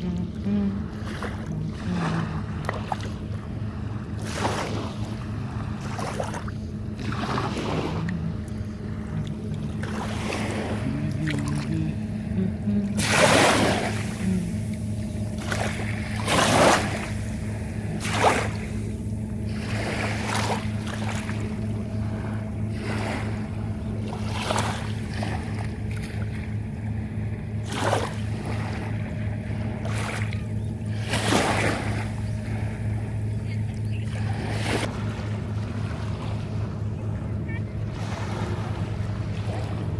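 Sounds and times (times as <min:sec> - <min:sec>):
boat engine humming: 0:00.0 - 0:39.9
water splashing against hull: 0:00.0 - 0:39.9.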